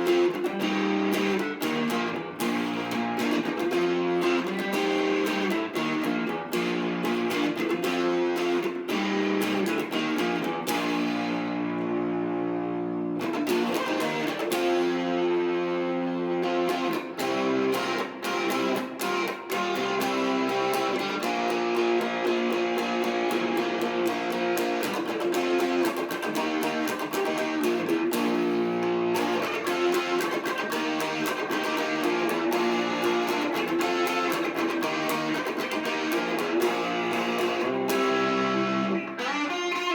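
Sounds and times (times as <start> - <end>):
electric guitar strumming rock chords: 0.0 - 39.9.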